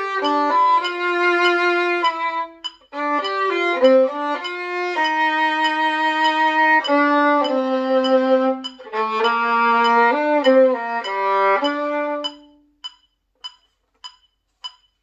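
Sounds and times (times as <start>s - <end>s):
violin playing long bowed notes: 0.0s - 12.6s
metronome ticking: 0.0s - 15.0s.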